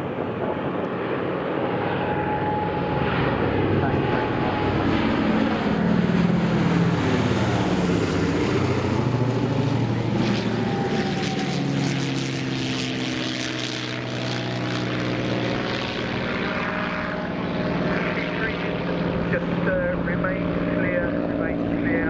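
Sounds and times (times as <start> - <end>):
propeller bomber engines passing overhead: 0.0 - 22.0.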